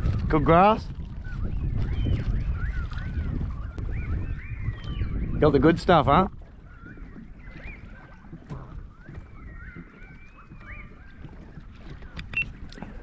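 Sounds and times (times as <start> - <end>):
low rumble of wind and water: 0.0 - 13.0
birds whistling: 1.2 - 13.0.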